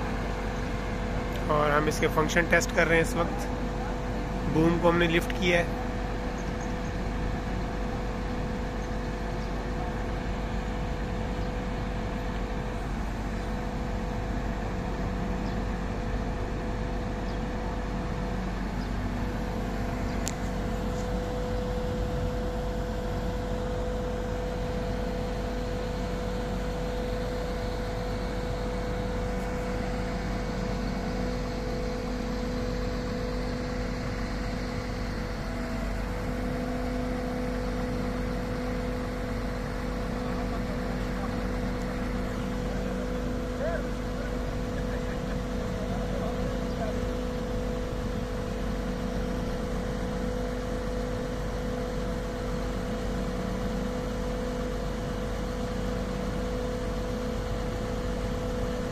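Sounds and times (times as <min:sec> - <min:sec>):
diesel truck engine humming: 0:00.0 - 0:58.9.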